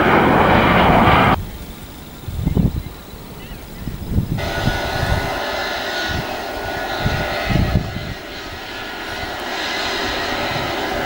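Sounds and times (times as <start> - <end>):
jet engines whining: 0.0 - 11.0
low gusting rumbles: 0.0 - 11.0.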